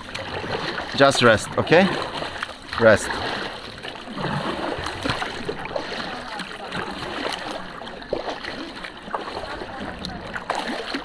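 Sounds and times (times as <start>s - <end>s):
water splashing around a kayak: 0.0s - 11.0s.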